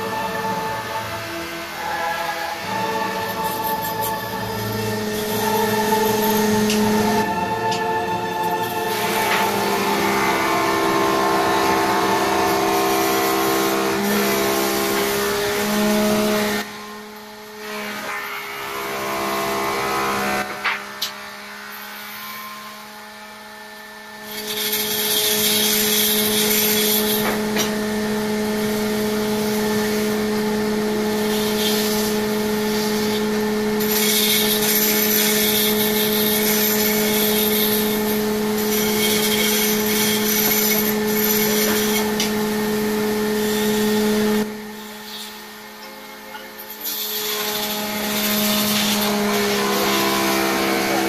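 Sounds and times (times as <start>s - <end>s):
tool scraping spinning wood: 0.0s - 18.1s, 24.1s - 45.8s, 46.4s - 51.0s
lathe motor humming: 0.0s - 51.0s.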